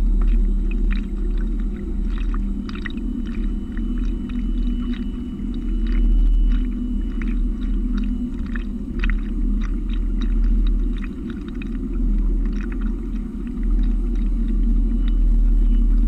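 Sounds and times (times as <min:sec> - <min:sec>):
steady low rumble: 0:00.0 - 0:16.0
water splashing along boat hull: 0:00.0 - 0:16.0.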